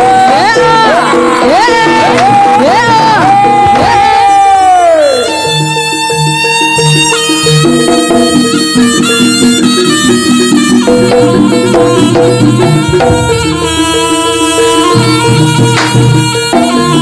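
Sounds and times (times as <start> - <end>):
gamelan percussion: 0.0 - 17.0
hand drums: 0.0 - 17.0
reedy shawm melody: 0.0 - 17.0.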